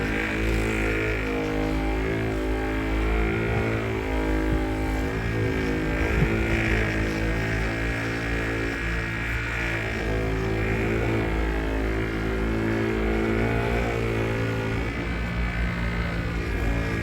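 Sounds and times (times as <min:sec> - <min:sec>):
electric polisher motor running: 0:00.0 - 0:17.0.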